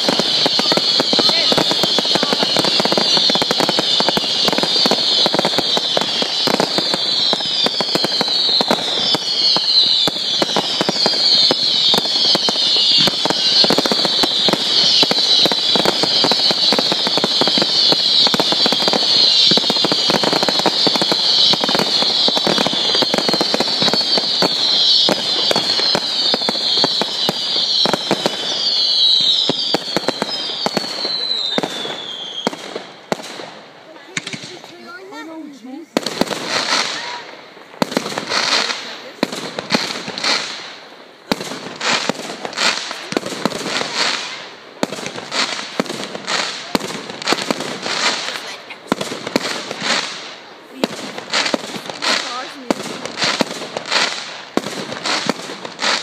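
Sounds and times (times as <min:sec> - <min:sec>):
firework whistles: 0:00.0 - 0:34.8, 0:35.6 - 0:56.0
fireworks crackling: 0:00.0 - 0:56.0.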